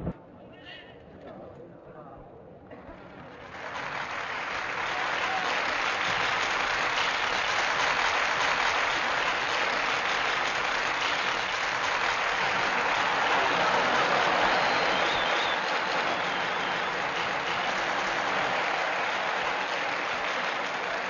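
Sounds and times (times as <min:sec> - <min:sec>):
stadium crowd cheering and clapping: 0:03.1 - 0:21.0.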